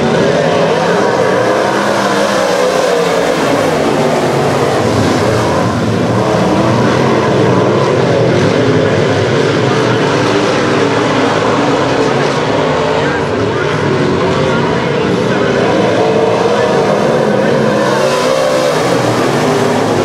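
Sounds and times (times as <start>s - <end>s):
race car engines running hard: 0.0s - 20.0s.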